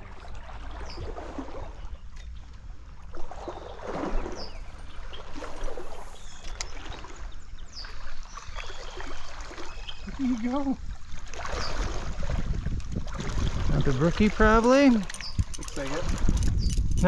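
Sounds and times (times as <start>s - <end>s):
stream water splashing: 0.0s - 17.0s.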